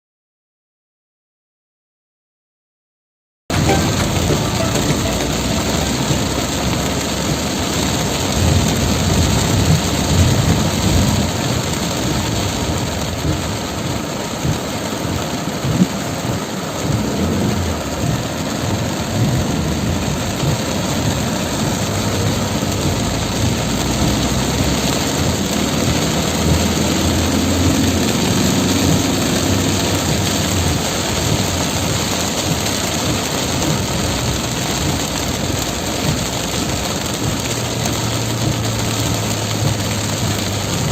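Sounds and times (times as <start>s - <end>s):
heavy rain pouring: 3.5s - 40.9s
vehicle engine rumbling: 3.5s - 40.9s.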